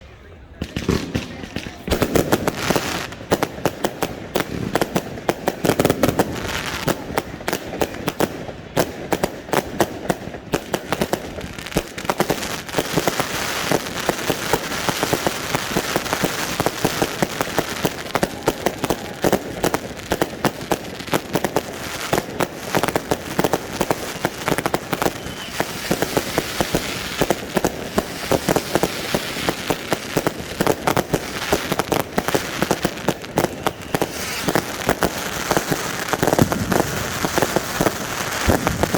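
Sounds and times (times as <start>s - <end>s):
fireworks bangs: 0.3s - 38.9s.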